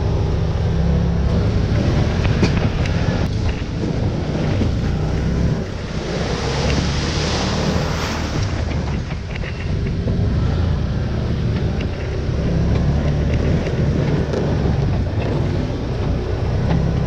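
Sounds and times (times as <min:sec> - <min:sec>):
vehicle engine rumble: 0:00.0 - 0:17.0
wind noise on microphone: 0:00.0 - 0:17.0.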